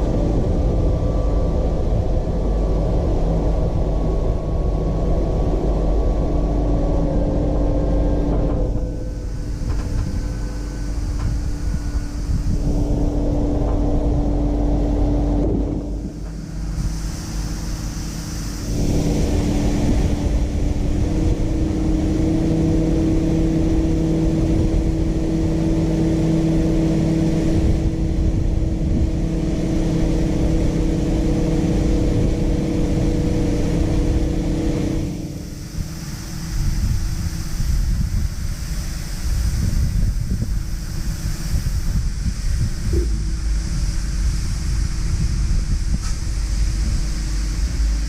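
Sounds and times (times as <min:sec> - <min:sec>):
farm vehicle engine humming: 0:00.0 - 0:48.0.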